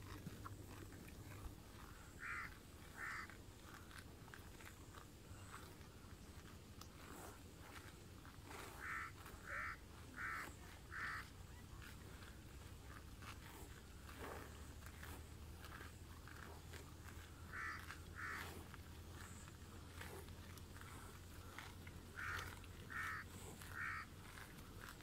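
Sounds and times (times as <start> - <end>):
animal tearing and chewing grass: 0.0 - 25.0.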